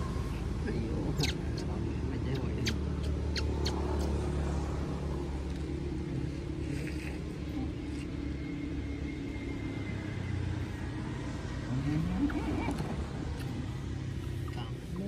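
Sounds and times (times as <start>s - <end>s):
motor engine running: 0.0s - 15.0s.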